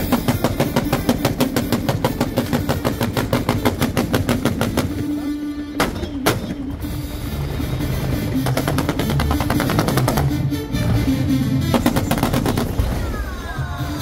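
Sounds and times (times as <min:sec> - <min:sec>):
fireworks banging: 0:00.0 - 0:11.0, 0:11.6 - 0:13.5.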